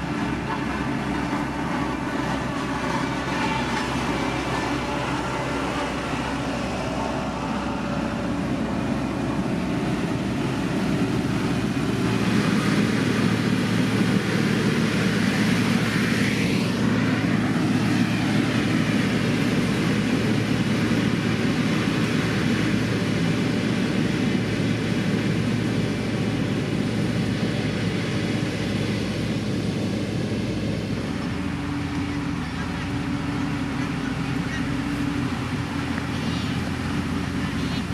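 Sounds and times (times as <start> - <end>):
heavy machine engine droning: 0.0 - 37.9.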